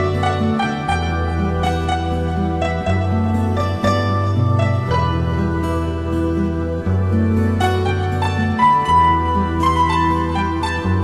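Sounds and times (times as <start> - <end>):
soft instrumental with plucked notes: 0.0 - 11.0.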